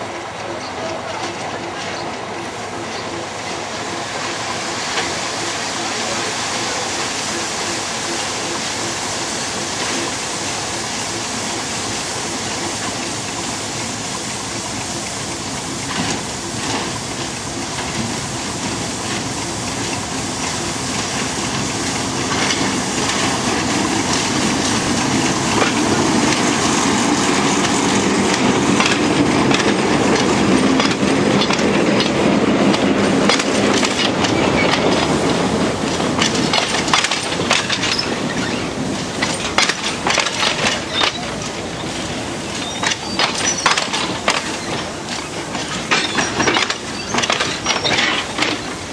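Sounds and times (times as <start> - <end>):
wheels clattering over rail joints: 0.0 - 4.3, 12.5 - 48.9
diesel locomotive engine running: 0.0 - 48.9.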